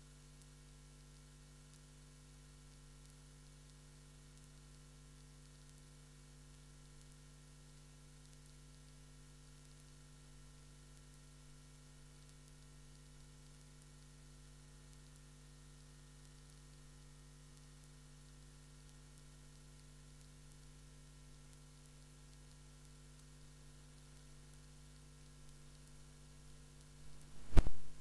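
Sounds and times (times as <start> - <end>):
electrical hum with hiss: 0.0 - 28.0.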